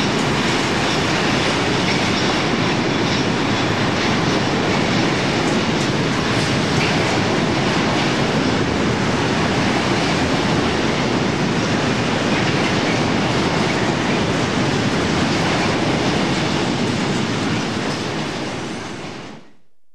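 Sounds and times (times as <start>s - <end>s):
freight train wagons rumbling on rails: 0.0s - 19.5s.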